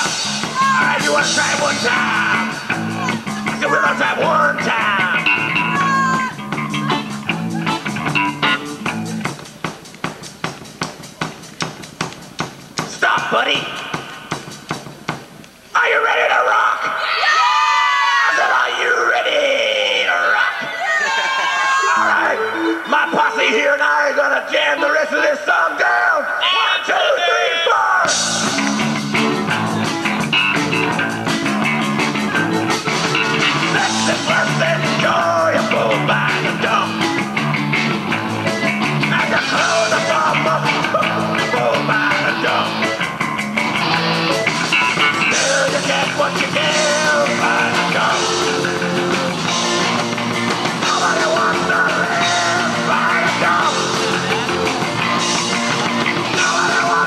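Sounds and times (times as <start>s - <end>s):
live rock band playing: 0.0s - 15.8s, 20.8s - 24.9s, 28.0s - 57.0s.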